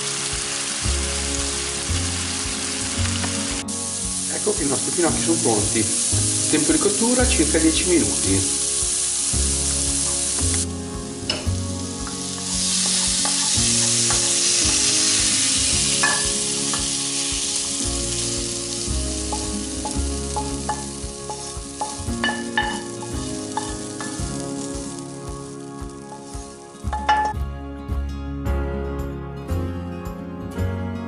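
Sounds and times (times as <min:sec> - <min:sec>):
fennel sizzling in a frying pan: 0:00.0 - 0:27.4.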